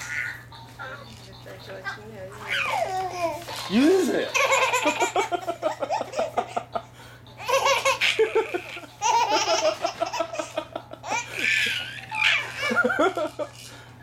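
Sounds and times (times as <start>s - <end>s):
baby laughing: 0.0s - 0.5s, 2.5s - 13.4s.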